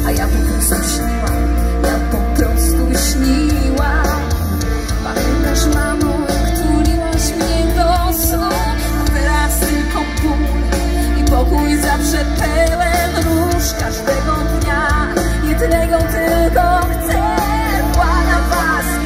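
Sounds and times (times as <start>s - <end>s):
live pop-rock band playing: 0.0s - 19.0s.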